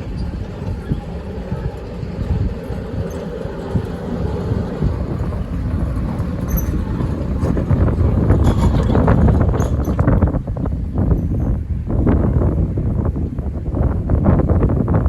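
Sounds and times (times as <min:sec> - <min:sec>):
miniature locomotive rumbling: 0:00.0 - 0:15.0.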